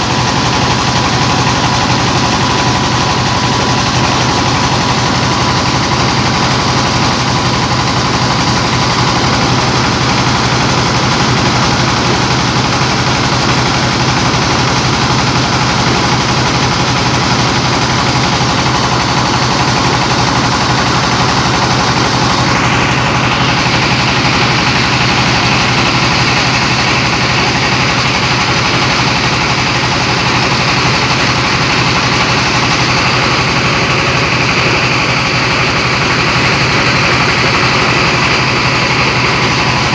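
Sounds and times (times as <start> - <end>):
diesel engine thrum: 0.0 - 39.9
rice milling machine din: 0.0 - 39.9.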